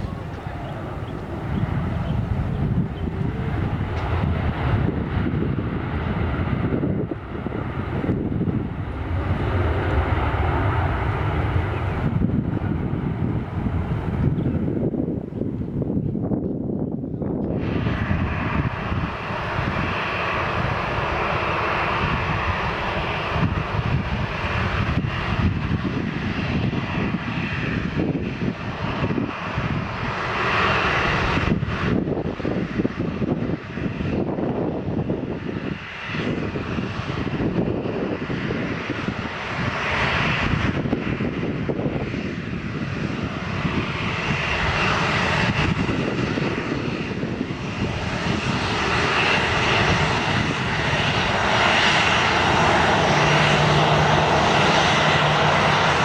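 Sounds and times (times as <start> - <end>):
airplane engines roaring: 0.0 - 56.0.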